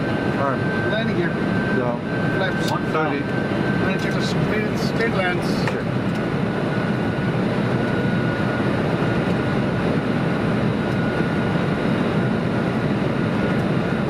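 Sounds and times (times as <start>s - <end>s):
aircraft engine and airflow noise: 0.0s - 14.0s.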